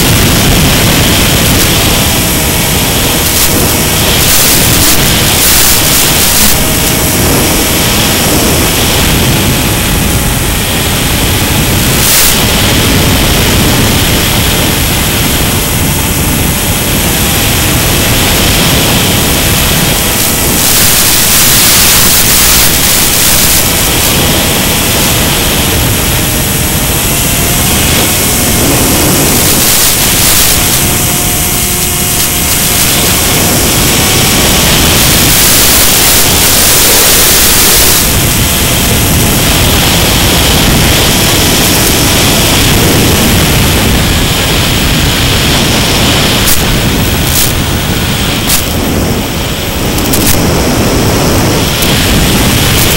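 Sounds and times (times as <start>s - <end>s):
loud static hiss: 0.0s - 52.9s.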